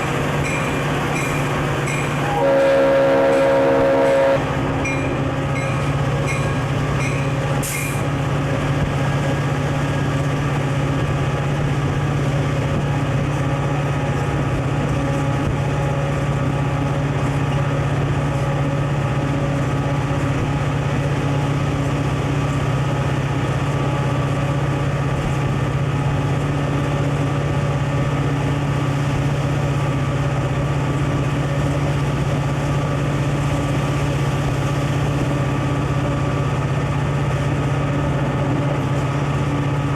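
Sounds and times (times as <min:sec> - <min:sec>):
diesel locomotive drone: 0:00.0 - 0:39.9.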